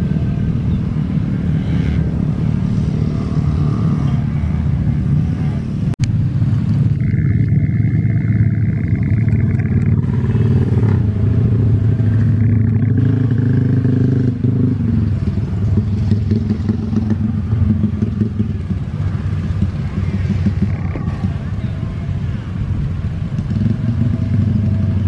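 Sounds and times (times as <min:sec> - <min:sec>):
motorcycles passing: 0:00.0 - 0:25.0.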